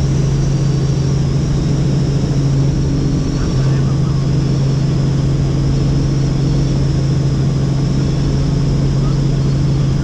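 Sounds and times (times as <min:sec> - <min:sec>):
helicopter engine and rotors: 0:00.0 - 0:10.0.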